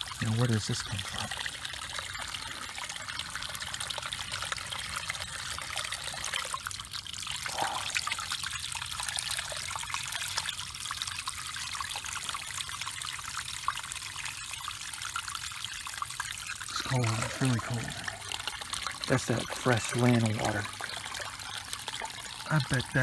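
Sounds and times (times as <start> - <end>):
water trickling into river: 0.0 - 23.0.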